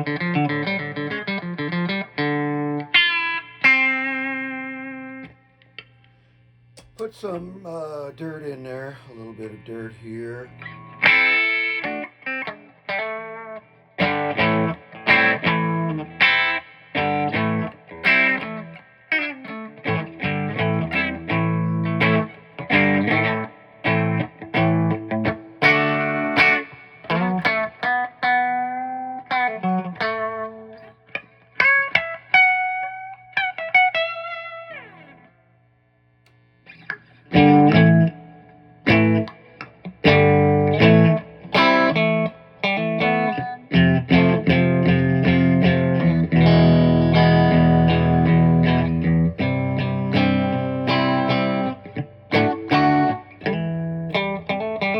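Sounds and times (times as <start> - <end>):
overdriven electric guitar: 0.0 - 7.0, 10.3 - 35.4, 36.6 - 54.9.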